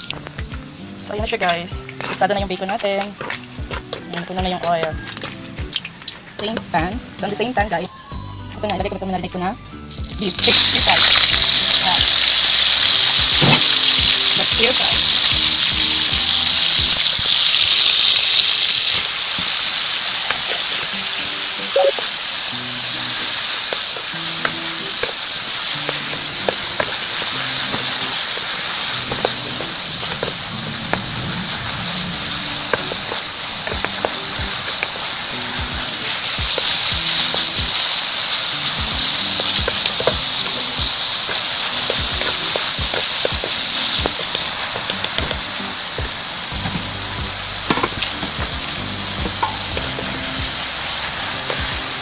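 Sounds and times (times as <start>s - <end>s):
meat sizzling in hot oil: 0.0s - 52.0s
soft background music: 0.0s - 52.0s.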